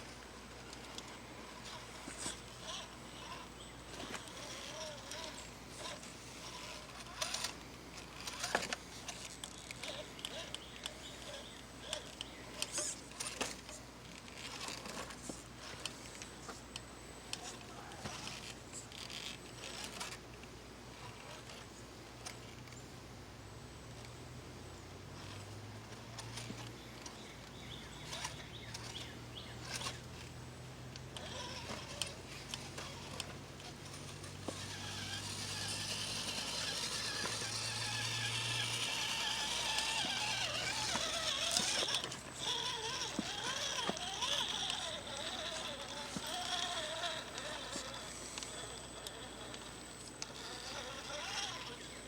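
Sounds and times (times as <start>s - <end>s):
clicks and creaks: 0.2s - 22.8s, 25.2s - 52.0s.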